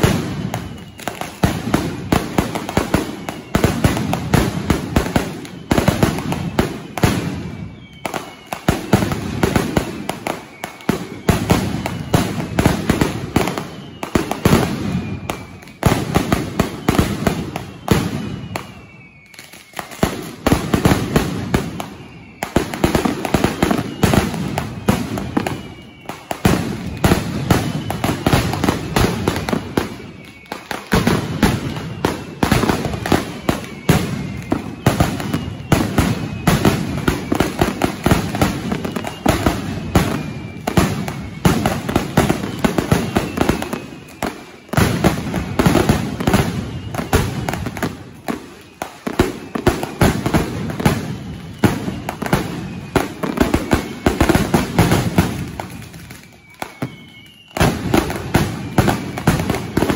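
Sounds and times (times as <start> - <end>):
falling whistles: 0.0 - 59.9
firecrackers banging: 0.0 - 59.9.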